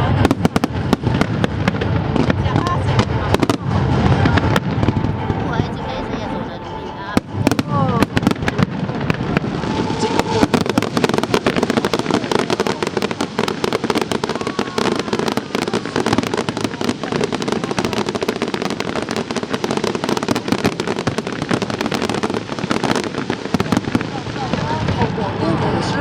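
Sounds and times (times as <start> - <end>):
fireworks rapid bangs and crackling: 0.0 - 26.0.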